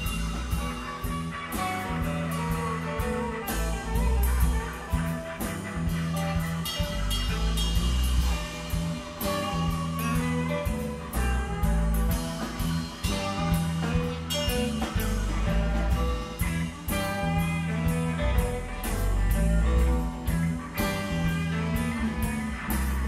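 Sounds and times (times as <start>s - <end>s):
bass guitar: 0.0s - 23.0s
drum kit beat: 0.0s - 23.0s
electric guitar lead: 0.0s - 23.0s.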